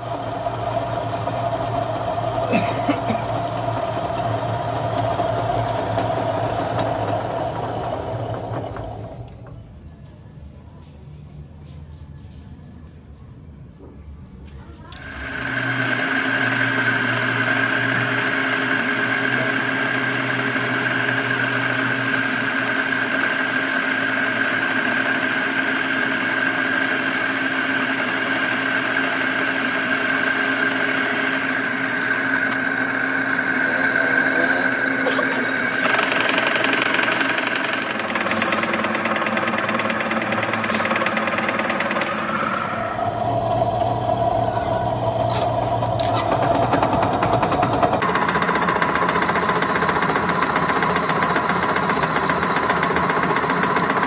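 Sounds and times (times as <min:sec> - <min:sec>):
metal lathe hum: 0:00.0 - 0:09.5, 0:15.0 - 0:54.0
high gear whine: 0:00.0 - 0:10.1, 0:14.9 - 0:54.0.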